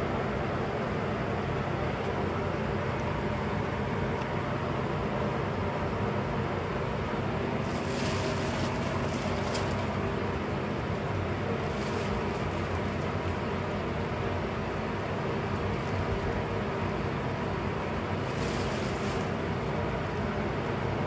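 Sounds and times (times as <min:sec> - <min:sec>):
heaters and fans droning: 0:00.0 - 0:21.0.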